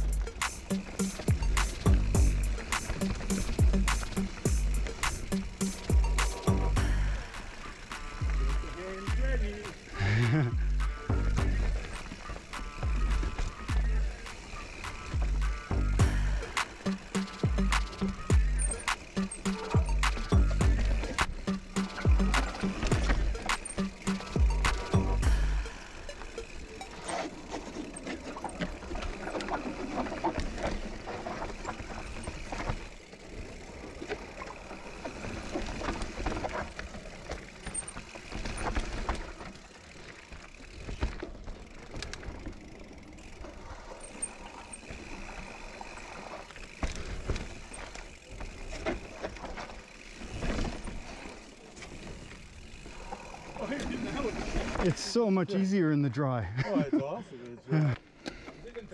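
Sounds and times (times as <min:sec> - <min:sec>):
bike rattling and knocking: 0:00.0 - 0:55.1
bike tyres on dirt: 0:00.0 - 0:56.4.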